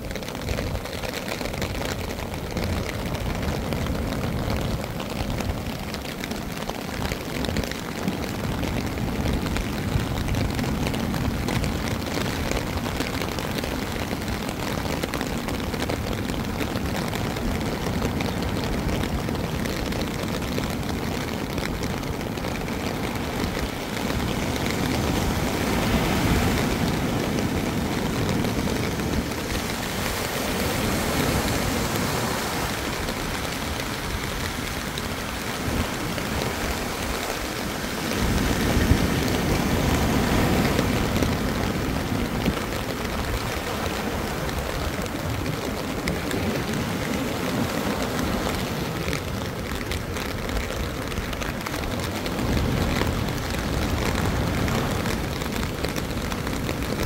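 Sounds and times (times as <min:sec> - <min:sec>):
rain: 0:00.0 - 0:57.0
wind: 0:00.0 - 0:57.0.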